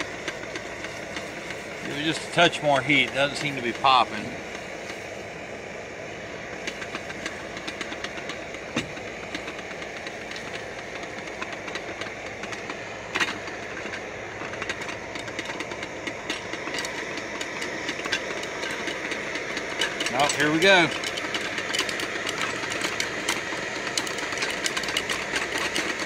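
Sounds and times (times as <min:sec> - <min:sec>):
gas camp stove hissing: 0:00.0 - 0:26.0.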